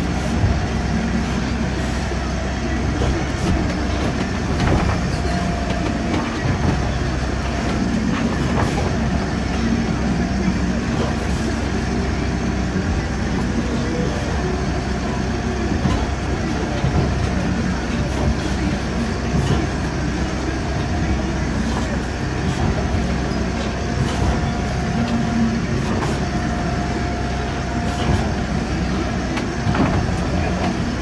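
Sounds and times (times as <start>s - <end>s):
boat diesel engine running: 0.0s - 31.0s.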